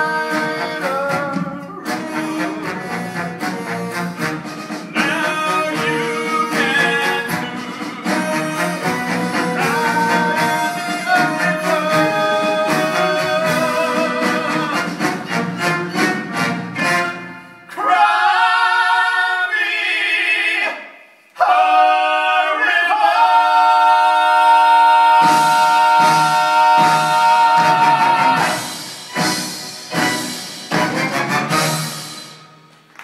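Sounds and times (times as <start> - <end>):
voices holding notes in harmony: 0.0 - 28.8
song with vocals and instruments: 0.0 - 33.0.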